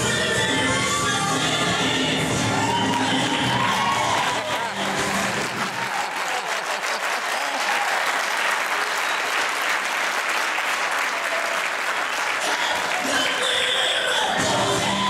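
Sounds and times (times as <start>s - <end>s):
crowd applauding: 2.4s - 15.0s.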